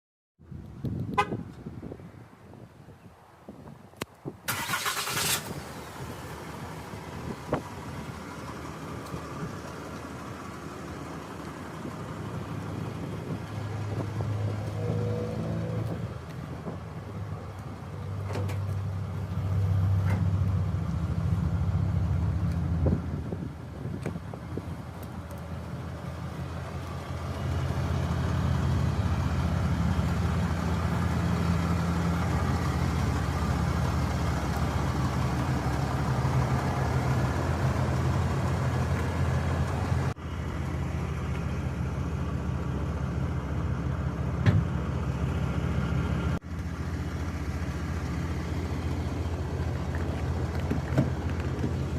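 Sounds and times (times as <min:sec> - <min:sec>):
diesel engine running: 0:04.5 - 0:51.9.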